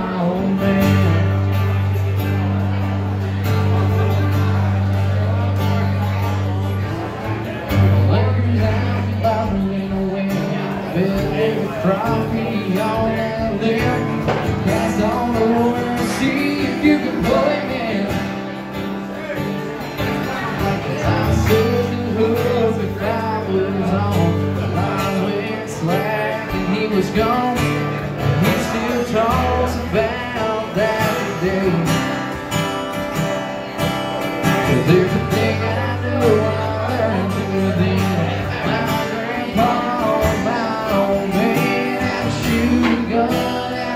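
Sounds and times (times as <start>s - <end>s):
man singing: 0.0s - 3.2s, 4.8s - 43.9s
acoustic guitar playing: 0.0s - 43.9s.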